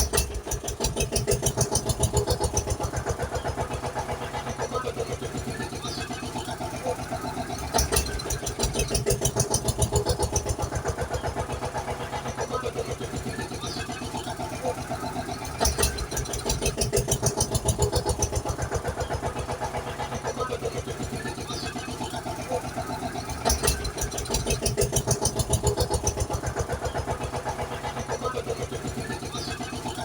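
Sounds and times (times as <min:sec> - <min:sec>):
engine starting and chugging: 0:00.0 - 0:30.0.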